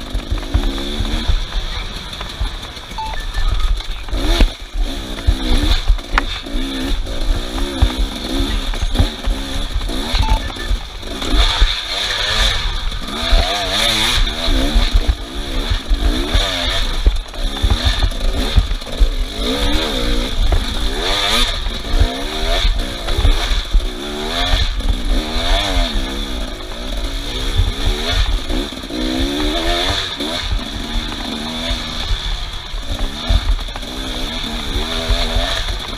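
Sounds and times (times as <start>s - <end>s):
off-road engine revving: 0.0s - 35.9s.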